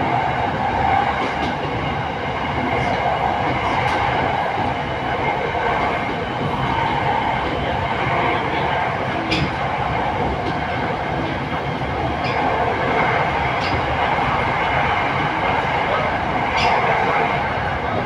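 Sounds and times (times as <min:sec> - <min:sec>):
train rolling noise: 0:00.0 - 0:18.0.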